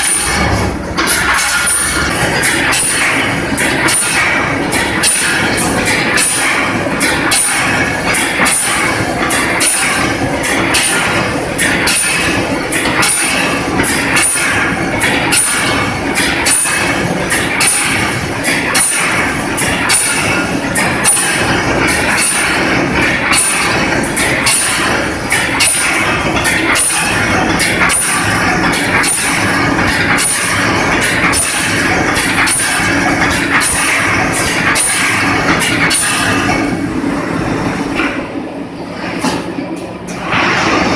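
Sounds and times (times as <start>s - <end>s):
welding machine heads clanking: 0.0s - 38.4s.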